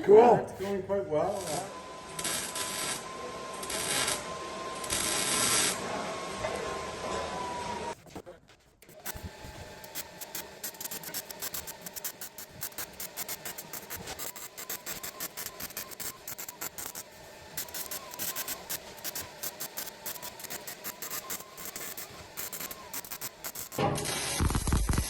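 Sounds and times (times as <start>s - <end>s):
welder arc crackling: 1.2s - 5.8s, 8.8s - 25.0s.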